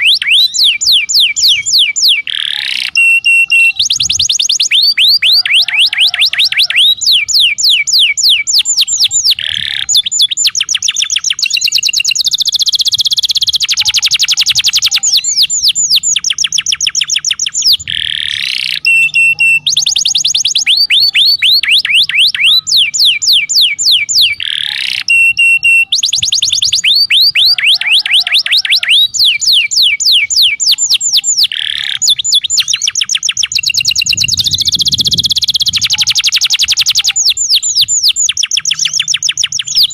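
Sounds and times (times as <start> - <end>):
canary song trills: 0.0 - 39.9.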